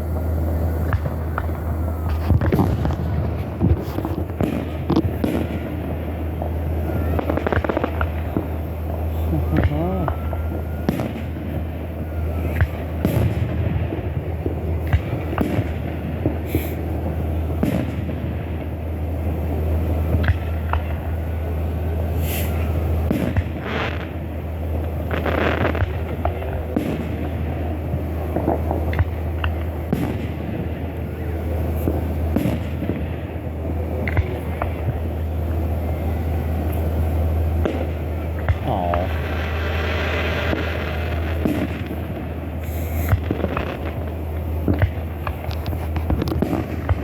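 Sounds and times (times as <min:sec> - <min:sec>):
firework bangs: 0:00.0 - 0:47.0
steady low rumble: 0:00.0 - 0:47.0.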